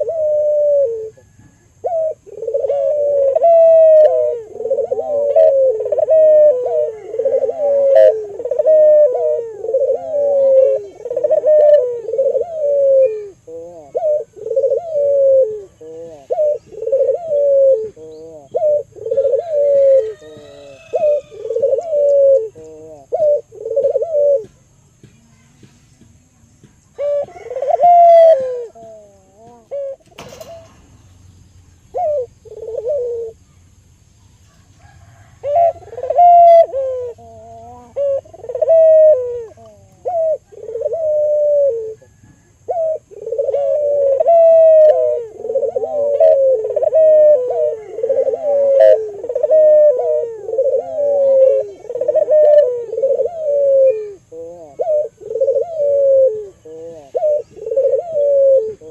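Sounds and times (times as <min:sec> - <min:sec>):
dove cooing: 0:00.0 - 0:33.8, 0:34.4 - 0:58.9.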